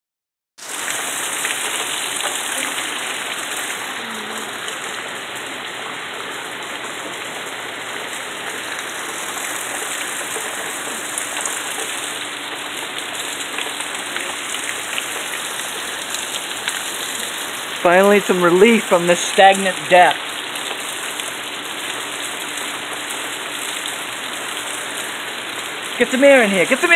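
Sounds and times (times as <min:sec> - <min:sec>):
rain falling: 0:00.6 - 0:26.9.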